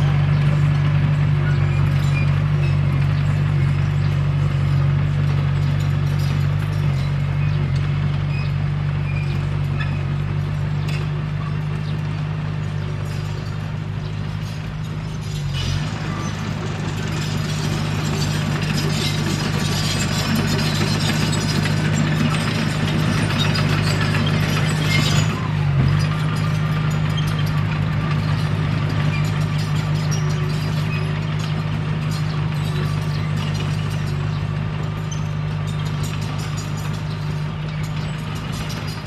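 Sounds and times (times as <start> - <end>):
bulldozer diesel engine: 0.0 - 39.0
metallic clatter and scraping of tracks: 0.0 - 39.0.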